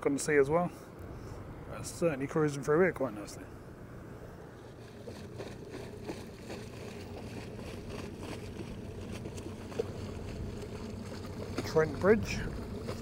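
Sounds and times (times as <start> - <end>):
motor boat engine droning: 0.8 - 13.0.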